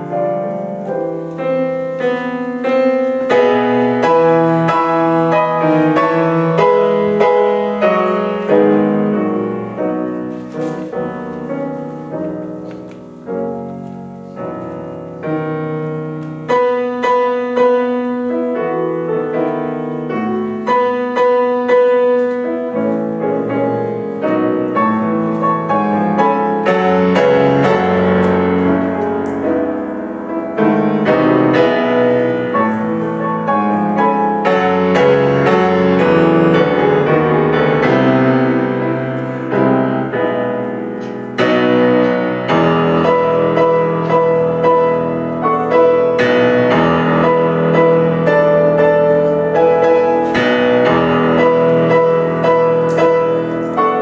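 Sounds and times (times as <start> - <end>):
solo piano hymn: 0.0 - 54.0.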